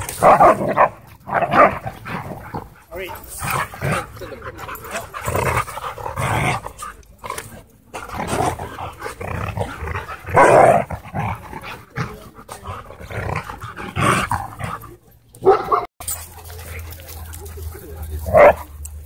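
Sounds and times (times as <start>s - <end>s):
dogs growling: 0.0s - 15.8s.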